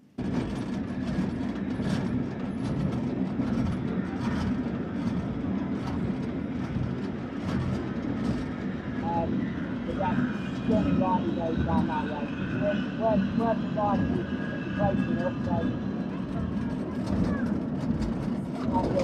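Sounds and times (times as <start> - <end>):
wheels rumbling on track: 0.0 - 19.0
rail clicks and clacks: 0.2 - 9.3, 9.9 - 19.0.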